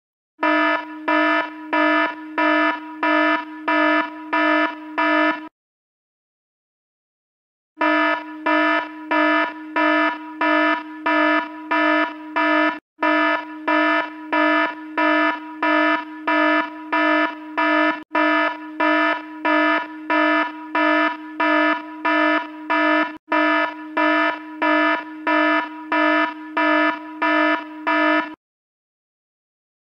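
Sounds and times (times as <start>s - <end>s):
electronic alarm buzzing: 0.4s - 5.5s, 7.8s - 28.4s.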